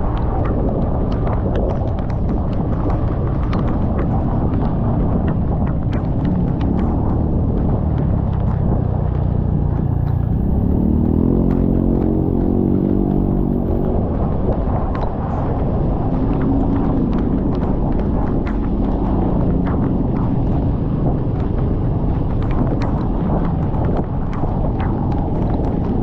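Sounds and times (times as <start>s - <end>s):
motorcycle engine running: 0.0s - 26.0s
sharp ticks: 0.0s - 26.0s
wind and road noise: 0.0s - 26.0s.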